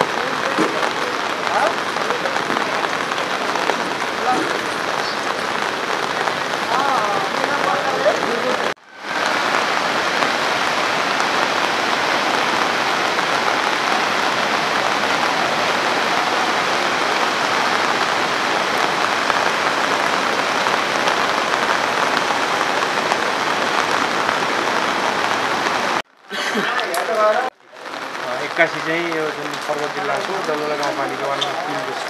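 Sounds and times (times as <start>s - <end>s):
river rushing: 0.0s - 26.0s
heavy rain hissing: 0.0s - 32.0s.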